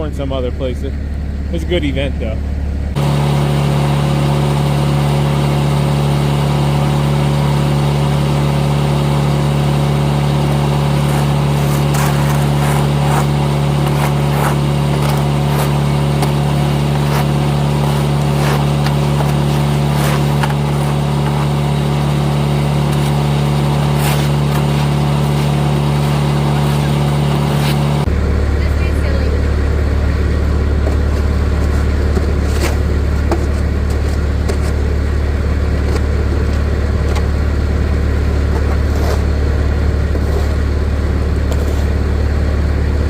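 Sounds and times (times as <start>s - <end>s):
engine running steadily: 0.0s - 43.0s.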